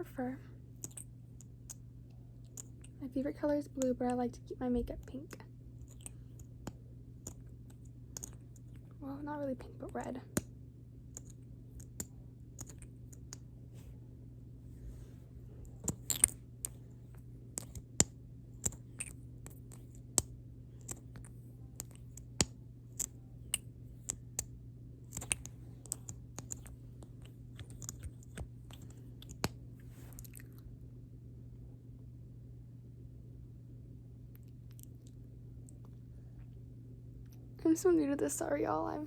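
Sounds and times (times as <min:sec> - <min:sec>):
low electrical hum: 0:00.0 - 0:39.0.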